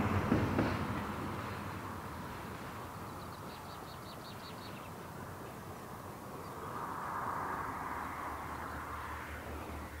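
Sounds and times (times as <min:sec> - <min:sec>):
distant vehicle hum: 0:00.0 - 0:10.0.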